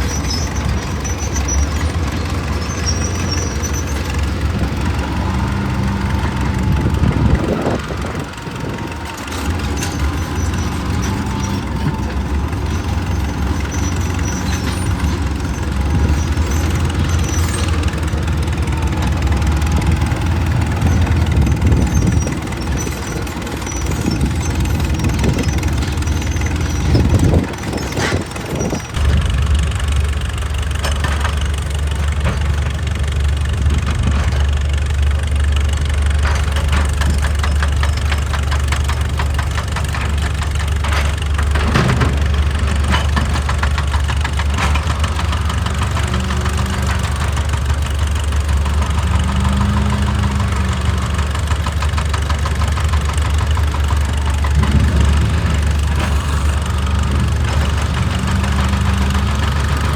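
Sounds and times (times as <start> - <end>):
excavator engine droning: 0.0 - 59.9.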